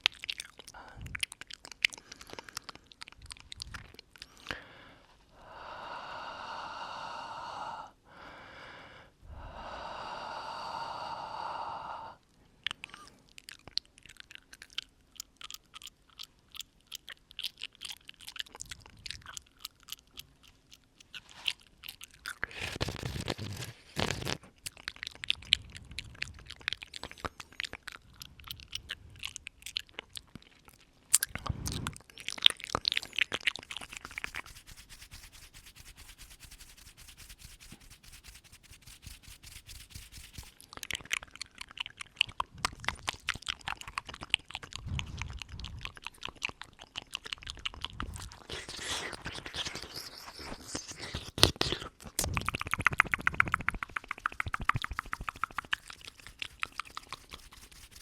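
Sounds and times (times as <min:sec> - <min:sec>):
wet mouth clicks and smacks: 0:00.0 - 0:04.6, 0:12.6 - 0:58.0.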